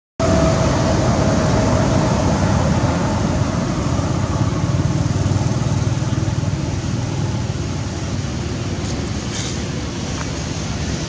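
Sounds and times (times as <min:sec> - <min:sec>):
motorbike engines passing: 0:00.2 - 0:11.0
road traffic rumble: 0:00.2 - 0:11.0.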